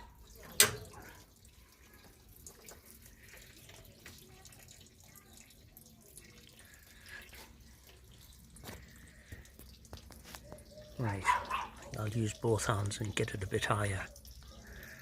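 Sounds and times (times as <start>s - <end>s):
petrol dribbling from a hose: 0.0s - 15.0s.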